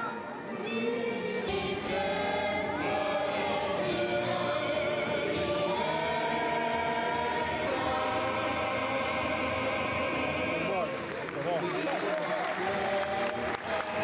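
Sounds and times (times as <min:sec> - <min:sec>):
singers holding long notes: 0:00.0 - 0:14.0.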